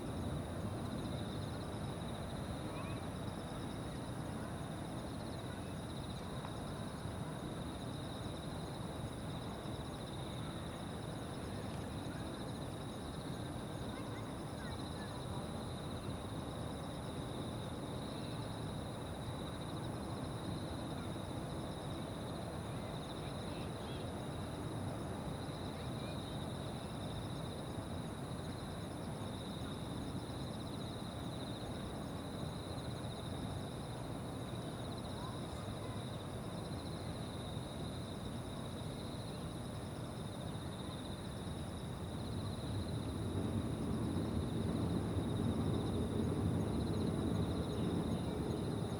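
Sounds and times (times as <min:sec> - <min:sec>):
insects trilling: 0:00.2 - 0:48.9.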